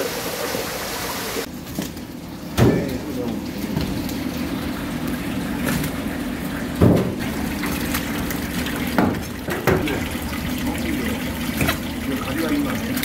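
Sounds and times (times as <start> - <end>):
water running from tap: 0.0 - 13.0.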